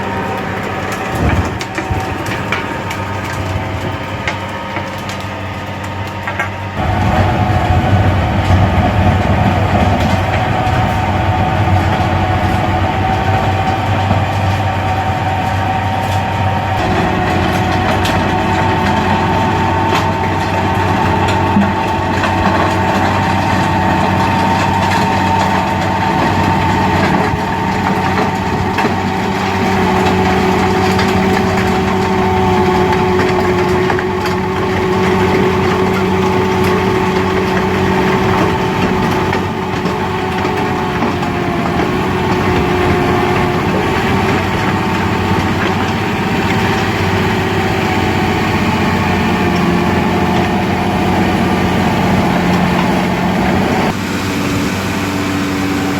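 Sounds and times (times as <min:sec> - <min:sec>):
mechanical whine: 0:00.0 - 0:55.9
tractor diesel engine running: 0:00.0 - 0:55.9.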